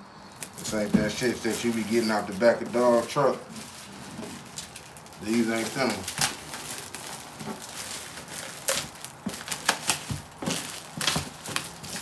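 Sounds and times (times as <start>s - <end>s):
plastic wrap crinkling and tearing: 0.3s - 12.0s.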